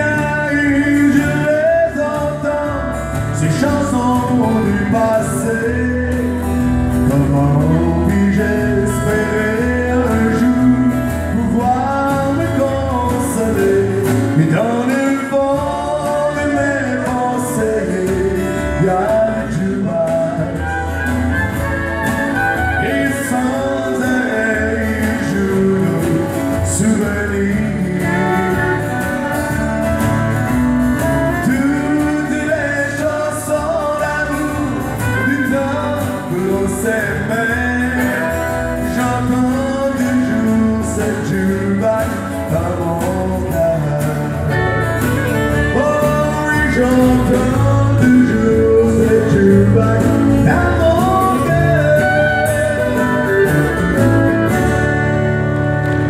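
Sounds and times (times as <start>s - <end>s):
man singing: 0.0s - 55.4s
band playing country music: 0.0s - 56.0s
strummed acoustic guitar: 0.0s - 56.0s.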